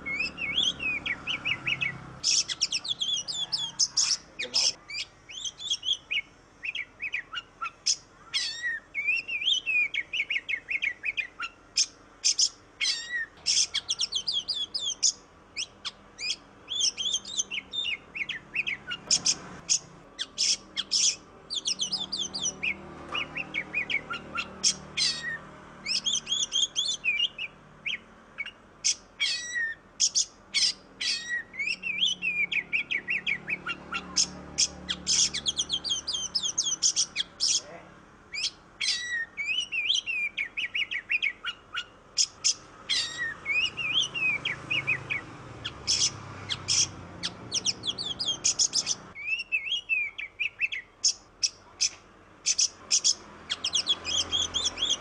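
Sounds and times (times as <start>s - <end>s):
bird singing whistles and trills: 0.0s - 37.6s, 38.3s - 55.0s.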